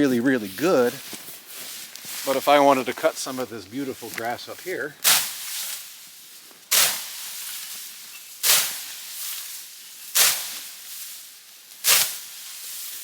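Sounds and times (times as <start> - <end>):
grass cutter swishing through grass: 0.0 - 13.0.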